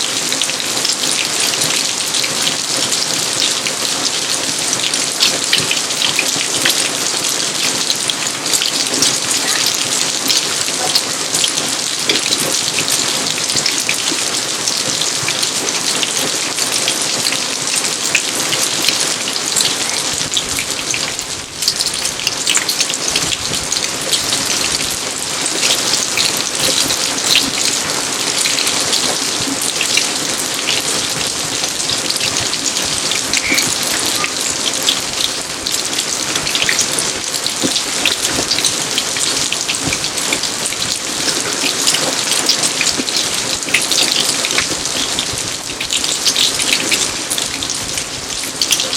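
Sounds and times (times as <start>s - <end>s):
rain falling on garden: 0.0s - 48.9s.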